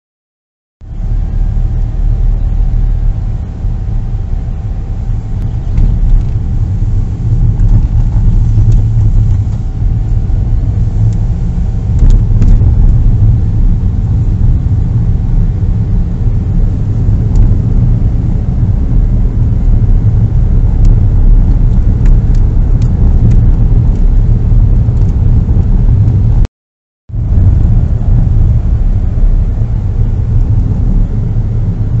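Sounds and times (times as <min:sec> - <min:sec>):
car engine and tyre noise: 0:00.8 - 0:26.5, 0:27.1 - 0:32.0.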